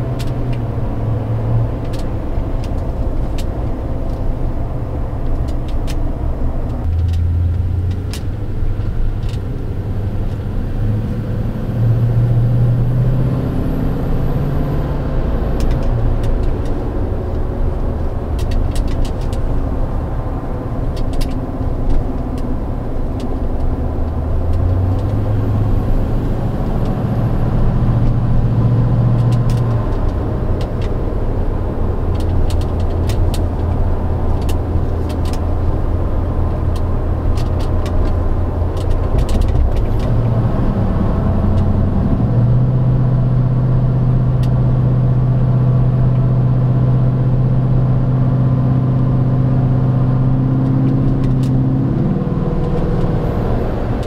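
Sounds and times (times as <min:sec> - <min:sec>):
truck engine while driving: 0:00.0 - 0:54.0.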